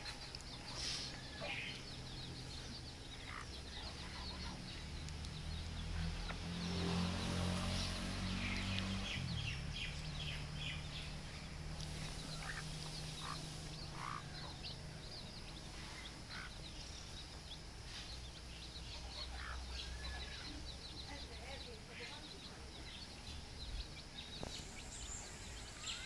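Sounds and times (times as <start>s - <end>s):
baby chicks peeping: 0.0s - 26.0s
low steady hum: 0.0s - 26.0s.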